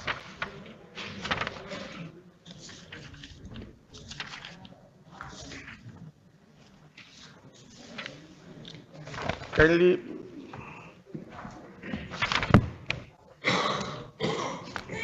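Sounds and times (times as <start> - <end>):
faint indistinct voices: 0.0 - 15.0.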